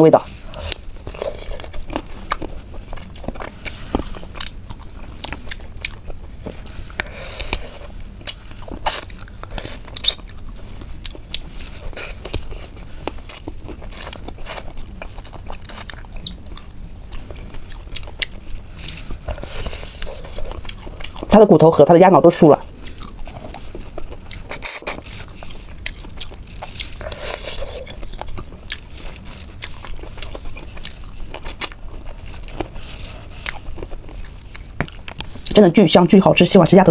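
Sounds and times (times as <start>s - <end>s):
chewing: 0.3s - 21.4s, 22.8s - 35.6s
crunching crispy food: 0.3s - 21.4s, 22.7s - 35.6s.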